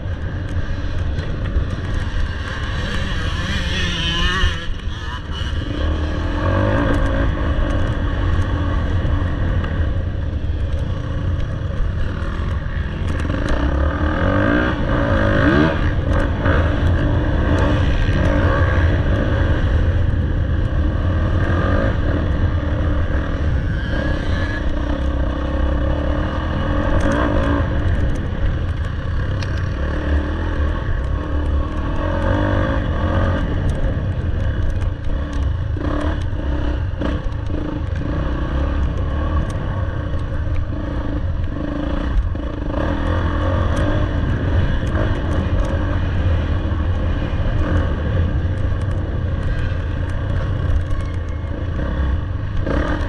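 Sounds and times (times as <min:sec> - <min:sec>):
dirt bike engine revving: 0:00.7 - 0:53.0.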